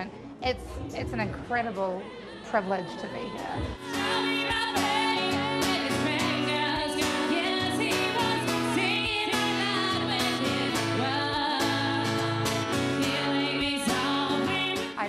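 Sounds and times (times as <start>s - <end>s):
woman singing: 1.0s - 15.0s.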